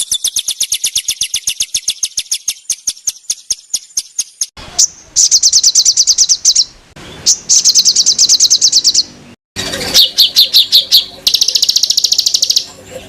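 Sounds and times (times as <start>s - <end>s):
songbird rapid repeated notes: 0.0s - 12.7s.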